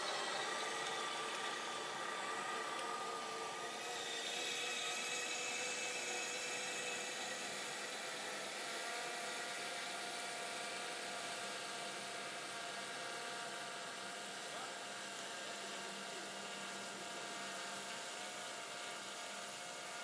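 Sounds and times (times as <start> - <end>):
model helicopter engine idling: 0.0 - 20.0.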